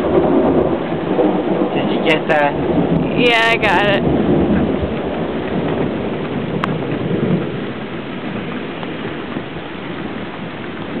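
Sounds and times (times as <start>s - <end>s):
heavy rain pouring: 0.0s - 11.0s
thunder rumbling: 0.0s - 11.0s.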